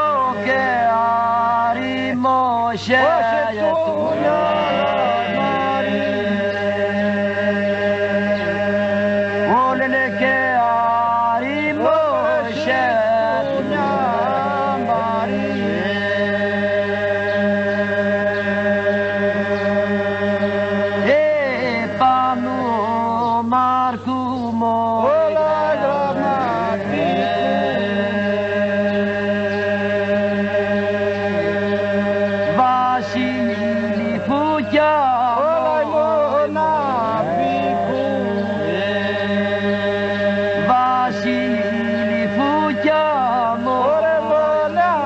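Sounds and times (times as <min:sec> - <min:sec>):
drone of voices: 0:00.0 - 0:45.0
lead voice singing melody: 0:00.0 - 0:45.0.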